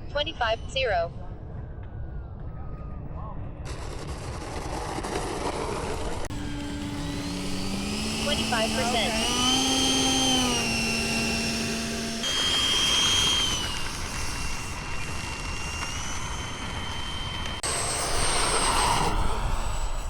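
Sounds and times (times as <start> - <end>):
ducted fan model jet whine: 0.0 - 20.0.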